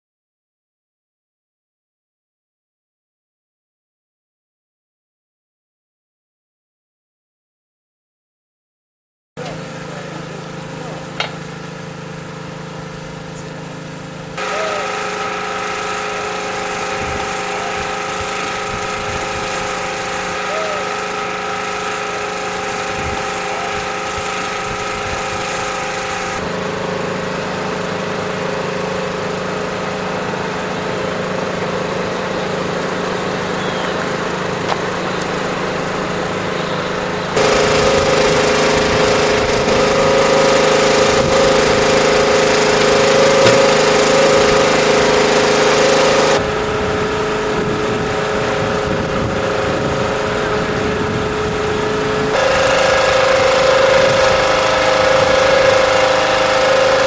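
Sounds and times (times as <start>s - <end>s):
engine idling with rattle: 9.4s - 57.0s.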